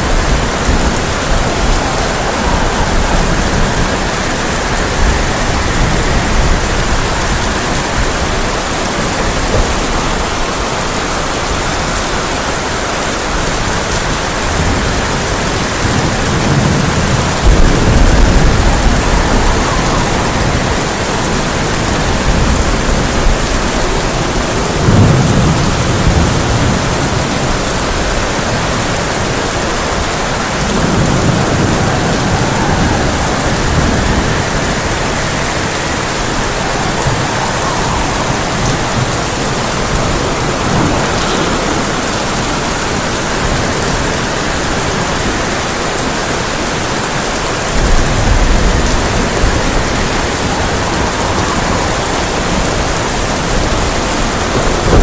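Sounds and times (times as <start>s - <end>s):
heavy rain on a tin roof: 0.0s - 55.0s
thunder rumbling: 0.0s - 55.0s.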